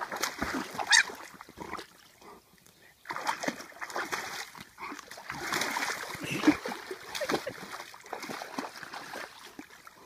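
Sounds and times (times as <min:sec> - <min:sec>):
dog splashing through water: 0:00.0 - 0:02.0, 0:03.0 - 0:10.0.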